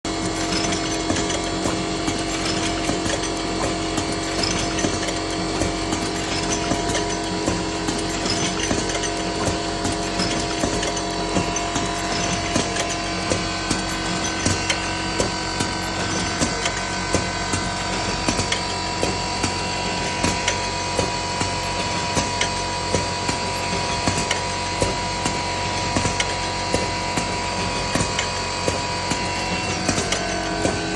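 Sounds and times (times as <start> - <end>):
motor hum: 0.0 - 30.9
machine clacking: 0.1 - 30.9.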